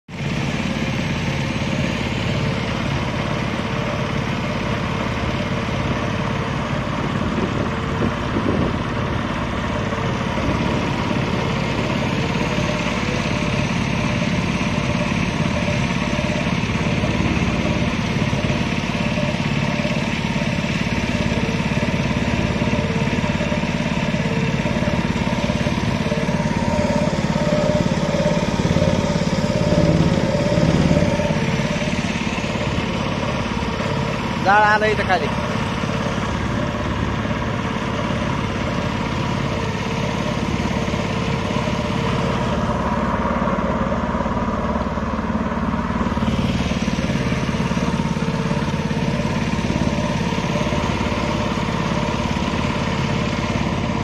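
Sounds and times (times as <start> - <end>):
motorboat engine droning: 0.0 - 54.0.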